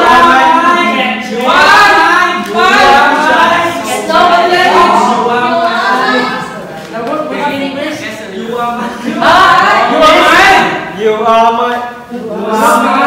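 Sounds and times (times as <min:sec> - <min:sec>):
voices singing without instruments: 0:00.0 - 0:13.0.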